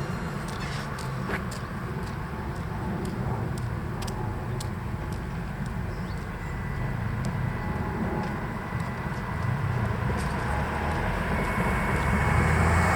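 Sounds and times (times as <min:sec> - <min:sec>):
vehicle low rumble: 0:00.0 - 0:12.9.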